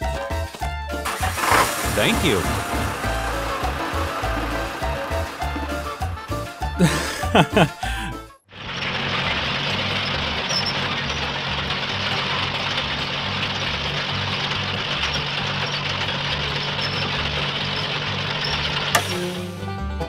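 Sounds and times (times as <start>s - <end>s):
truck engine rumbling: 1.0s - 20.0s.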